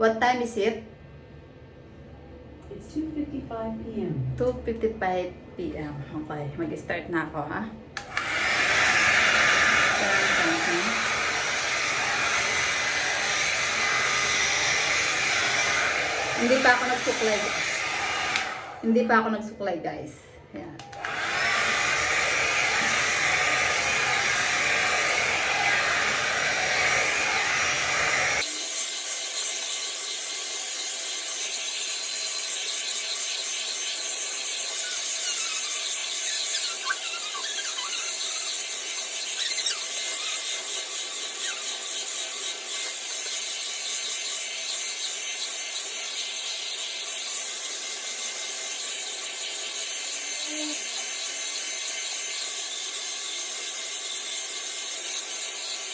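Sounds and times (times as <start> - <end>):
hot air brush blowing: 8.0 - 19.0, 20.8 - 55.9.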